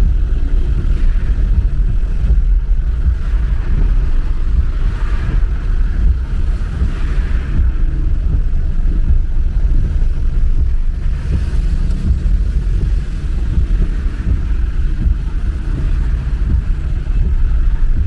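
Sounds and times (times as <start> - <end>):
car engine and road noise: 0.0 - 18.0
wind buffeting microphone: 0.0 - 18.0.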